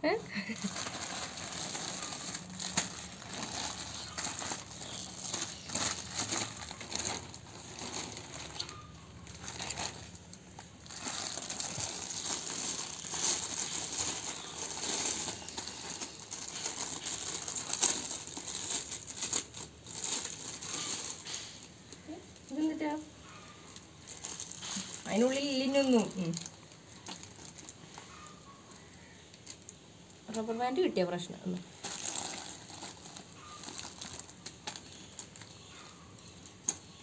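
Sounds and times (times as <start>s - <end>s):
plastic packaging crinkling: 0.0s - 30.8s, 31.5s - 37.0s.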